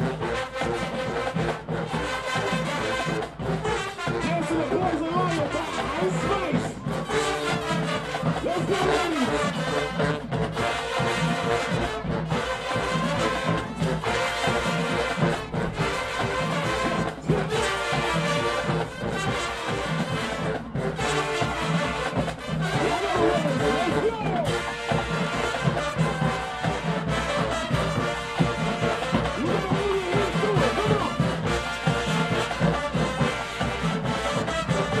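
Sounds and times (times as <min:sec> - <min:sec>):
brass marching band playing: 0:00.0 - 0:35.0.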